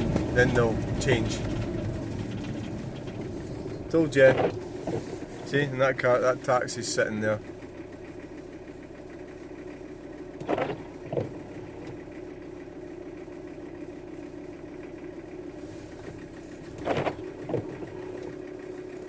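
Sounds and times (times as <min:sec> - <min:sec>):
van engine humming: 0:00.0 - 0:19.0.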